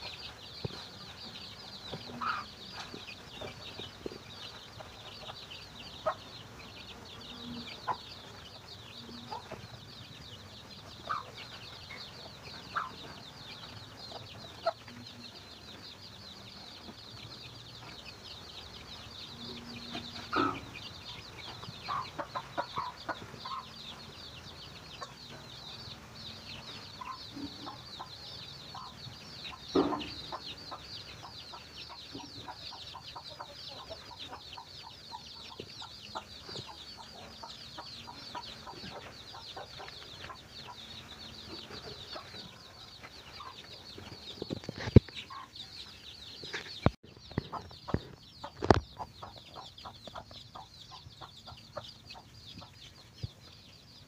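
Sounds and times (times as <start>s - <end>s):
hen clucking: 0.0s - 53.5s
chicks peeping: 0.0s - 54.0s.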